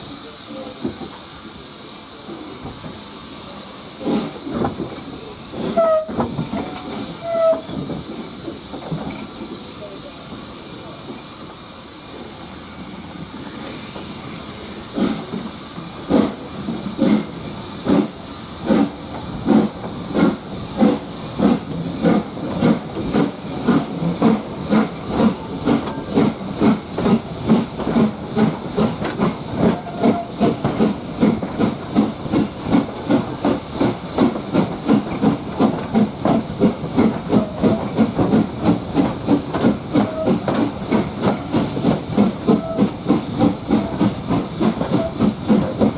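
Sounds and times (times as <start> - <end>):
steam hiss: 0.0 - 45.9
steam locomotive exhaust beats: 0.0 - 45.9.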